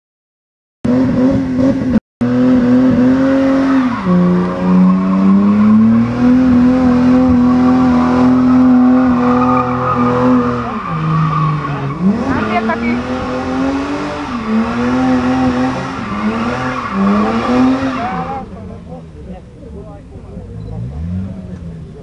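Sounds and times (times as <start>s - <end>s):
car engine at high revs: 0.9s - 22.0s.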